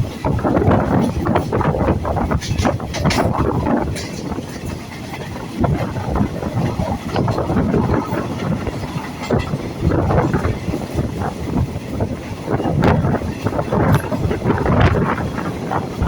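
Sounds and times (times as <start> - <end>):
train knocks and clatter: 0.0 - 16.0
train rumbling on track: 0.0 - 16.0.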